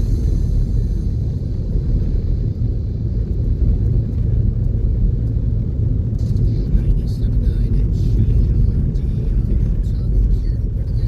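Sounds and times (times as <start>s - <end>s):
vehicle rumble from inside cabin: 0.0s - 11.0s.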